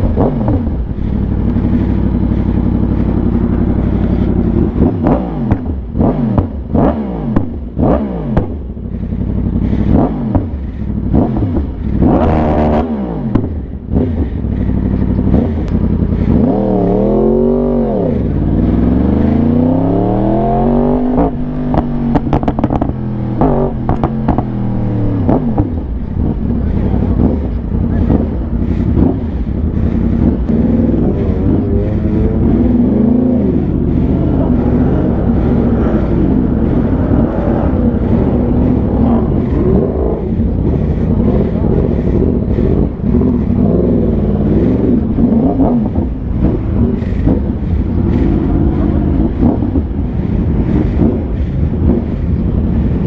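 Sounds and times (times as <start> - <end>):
motorcycle engine revving: 0.0 - 53.0
steady low rumble: 0.0 - 53.0.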